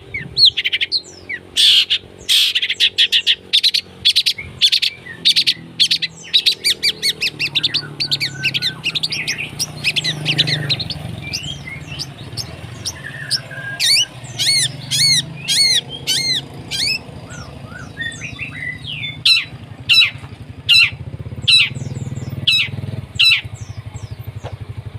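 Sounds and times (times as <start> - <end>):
shrike chattering song: 0.0 - 24.8
swooping bird calls: 0.0 - 24.9.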